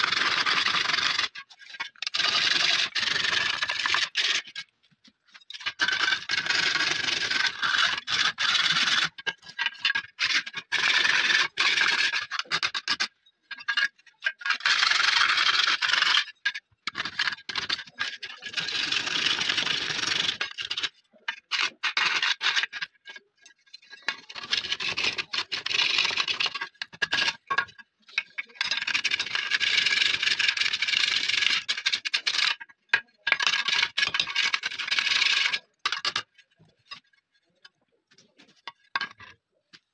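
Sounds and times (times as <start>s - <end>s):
file scraping metal: 0.0s - 4.7s, 5.3s - 16.4s, 17.0s - 37.6s.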